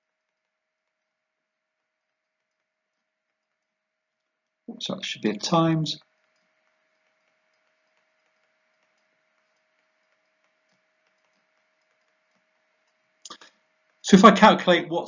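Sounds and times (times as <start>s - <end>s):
faint ticks: 0.0s - 4.7s, 6.0s - 14.1s
thin steady hum: 0.0s - 15.0s.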